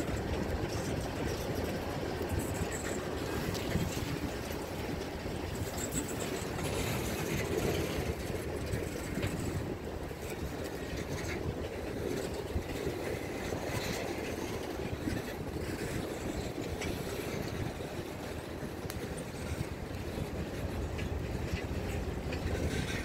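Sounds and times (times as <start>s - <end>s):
clicks of train wheels: 0.0s - 23.0s
train wheels rumbling on rail: 0.0s - 23.0s.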